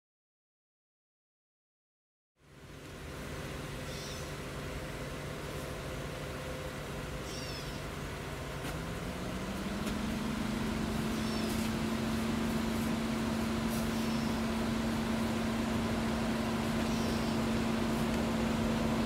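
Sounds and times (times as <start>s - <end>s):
diesel locomotive engines droning: 2.4s - 19.0s.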